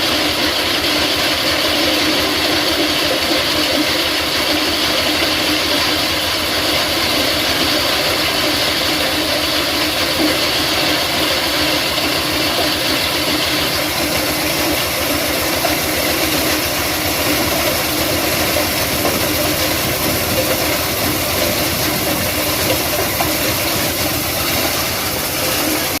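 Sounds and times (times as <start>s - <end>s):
stone-crushing machine running: 0.0s - 26.0s.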